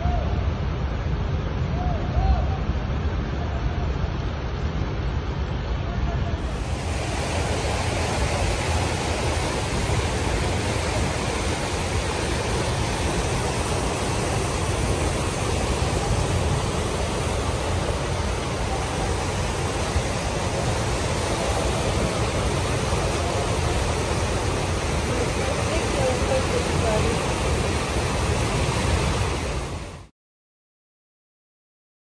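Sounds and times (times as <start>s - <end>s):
floodwater rushing: 4.1s - 30.1s.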